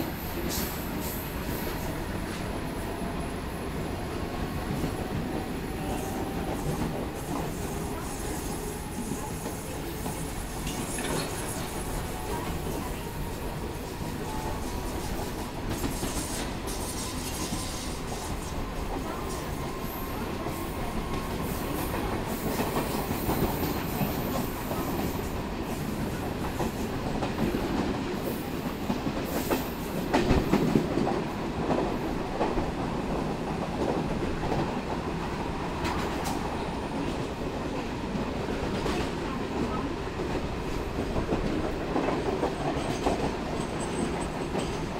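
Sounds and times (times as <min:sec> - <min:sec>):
goods train wagons rolling past: 0:00.0 - 0:44.9
train running noise: 0:00.0 - 0:44.9.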